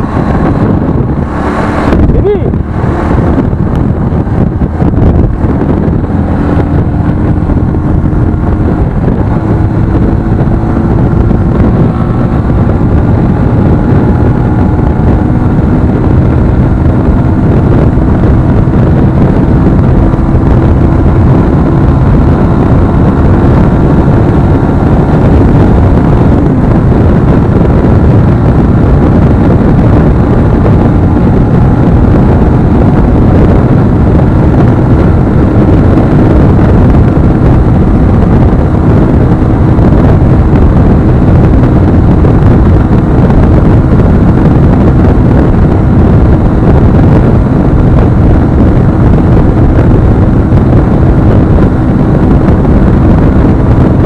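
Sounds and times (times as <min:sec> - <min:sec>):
motorcycle engine hum: 0:00.0 - 0:54.0
wind rushing on microphone: 0:00.0 - 0:54.0.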